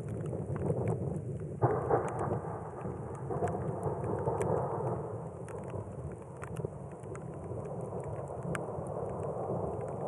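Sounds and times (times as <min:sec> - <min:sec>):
raindrops ticking: 0:00.0 - 0:10.0.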